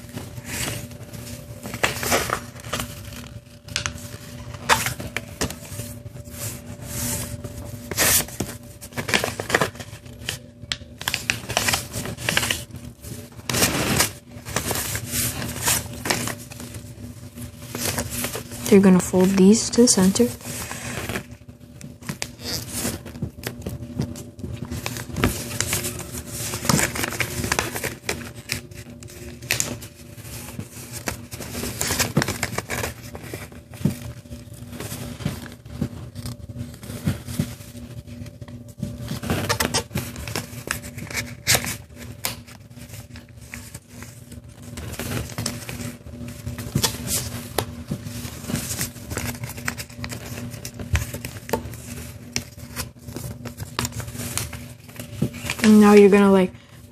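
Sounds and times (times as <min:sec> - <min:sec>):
faint steady hum: 0:00.0 - 0:56.9
paper rustling and crackling: 0:00.0 - 0:56.9.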